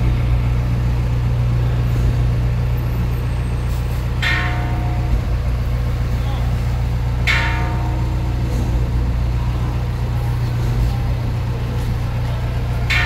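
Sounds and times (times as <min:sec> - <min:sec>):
diesel engine rumbling: 0:00.0 - 0:13.0
street noise: 0:00.0 - 0:13.0.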